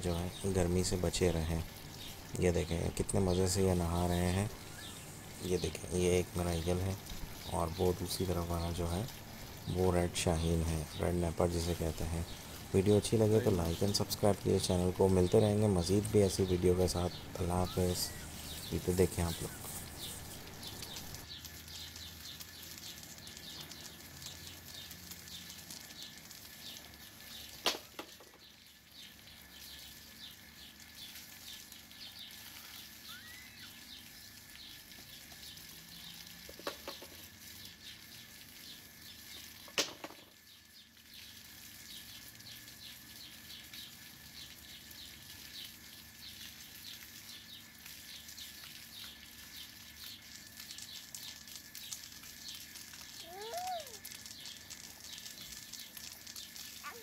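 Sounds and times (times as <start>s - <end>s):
water spraying from hose: 0.0s - 57.0s.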